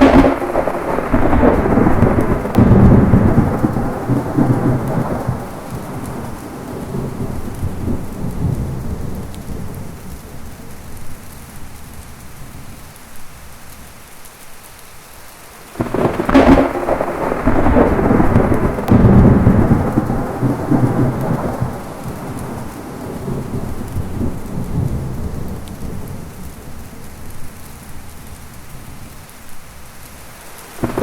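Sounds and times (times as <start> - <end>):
loud thunderclap rumbling: 0.0 - 14.0, 15.7 - 31.0
low rolling thunder: 0.0 - 14.2, 15.7 - 31.0
heavy rain: 0.0 - 31.0.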